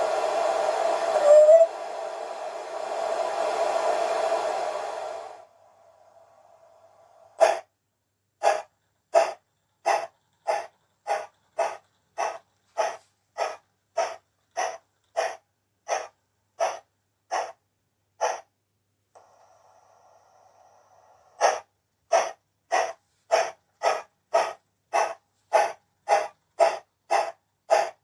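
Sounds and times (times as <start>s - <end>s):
synthesized steam locomotive chuffs: 0.0s - 7.7s, 8.4s - 18.5s, 19.2s - 28.0s.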